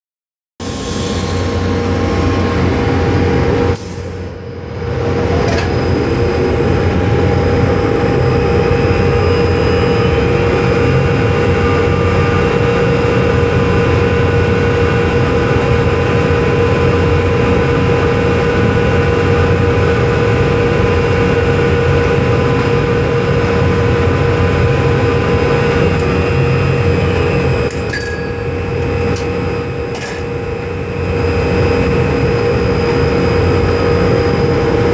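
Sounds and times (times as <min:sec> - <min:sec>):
machinery mechanical drone: 0:00.6 - 0:34.9.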